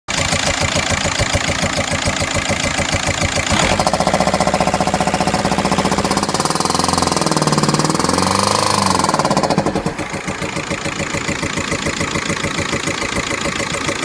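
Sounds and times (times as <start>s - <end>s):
car engine rhythmic noise: 0.1s - 14.0s.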